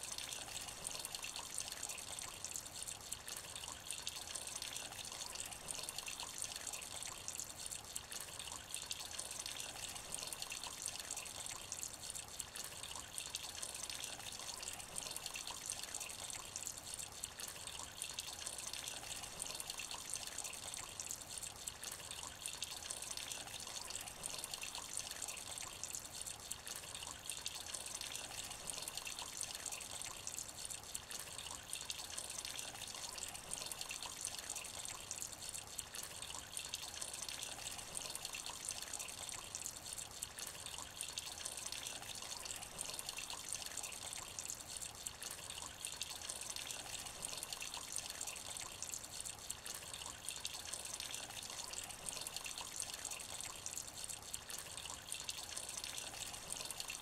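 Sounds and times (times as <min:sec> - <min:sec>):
rain pattering on puddle: 0:00.0 - 0:57.0.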